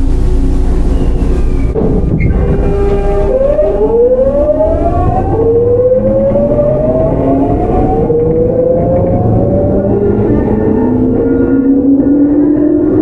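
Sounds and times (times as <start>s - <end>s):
train inverter whine: 0.0s - 13.0s
train running rumble: 0.0s - 13.0s.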